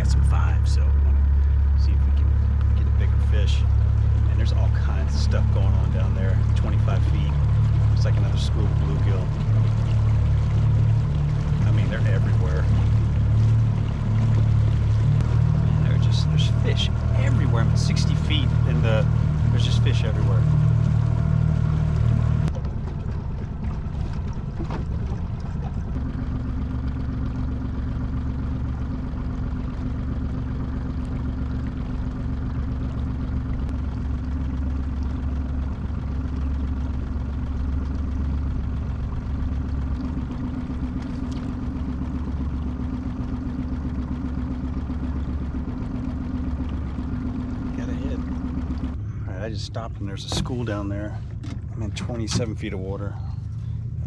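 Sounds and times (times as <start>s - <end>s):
boat motor droning: 0.0s - 54.0s
higher steady hum: 0.0s - 54.0s.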